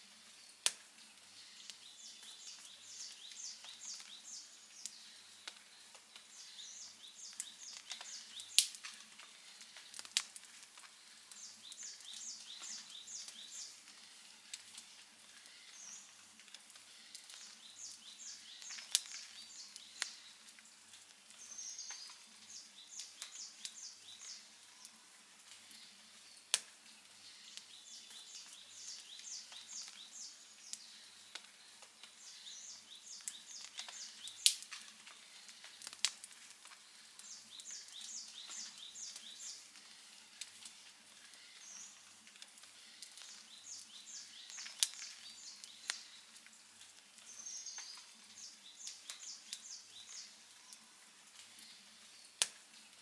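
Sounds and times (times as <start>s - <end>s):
campfire crackling and popping: 0.2s - 53.0s.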